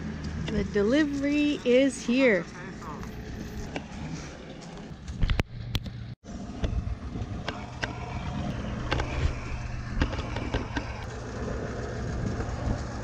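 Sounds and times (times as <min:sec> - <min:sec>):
truck engine at low revs: 0:00.0 - 0:13.0.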